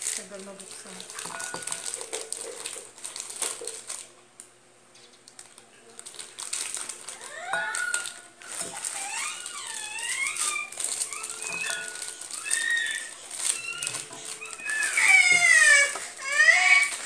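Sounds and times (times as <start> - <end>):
plastic wrapper crinkling: 0.0 - 17.0.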